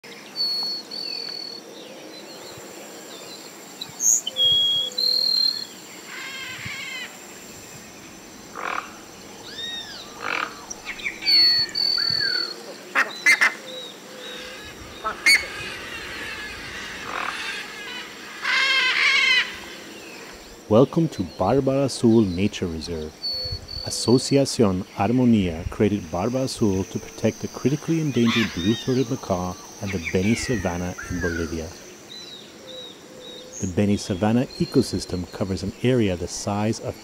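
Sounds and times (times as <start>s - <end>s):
birds calling: 0.0s - 37.0s.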